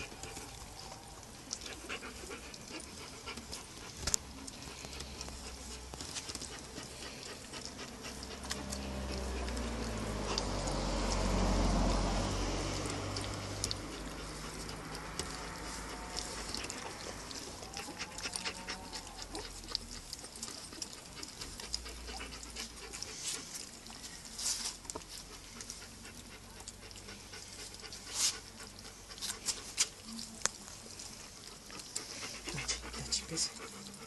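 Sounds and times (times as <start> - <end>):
puppies smacking and lapping food: 0.0 - 34.0.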